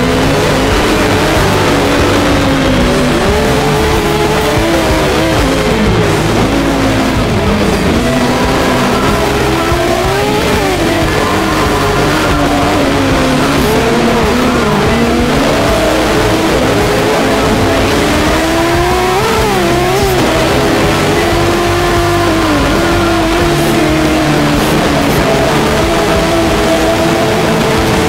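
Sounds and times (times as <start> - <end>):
kart engine revving: 0.0 - 28.0
tyre noise: 0.0 - 28.0.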